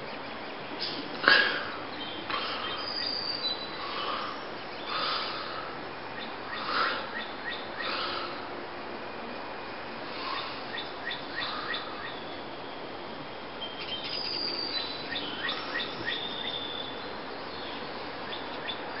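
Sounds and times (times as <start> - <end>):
outdoor hiss: 0.0 - 19.0
songbirds chirping: 0.0 - 19.0.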